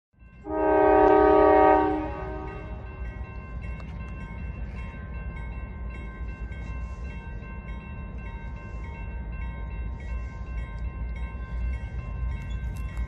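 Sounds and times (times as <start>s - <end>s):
crossing warning bell ringing: 0.2s - 13.0s.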